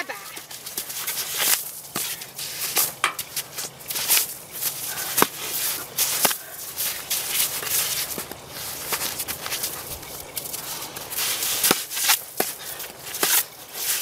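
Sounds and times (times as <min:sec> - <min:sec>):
footsteps crunching in snow: 0:00.1 - 0:14.0
stick scraping through snow: 0:00.6 - 0:14.0.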